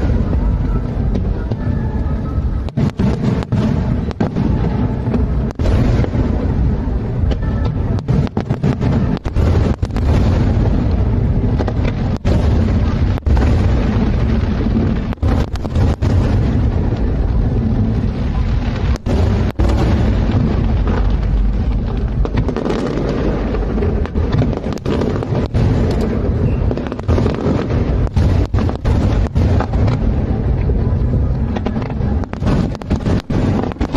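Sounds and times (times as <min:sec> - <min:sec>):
fireworks bursts and booms: 0:00.0 - 0:33.9.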